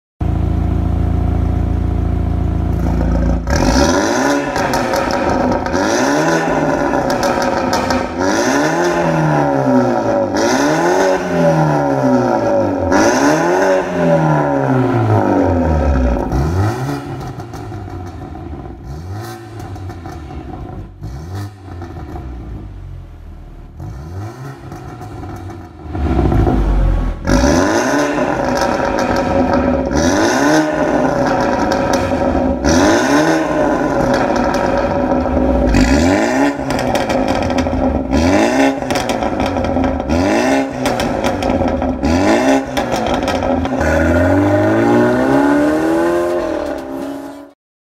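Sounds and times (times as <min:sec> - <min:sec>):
car engine revving: 0:02.7 - 0:47.6.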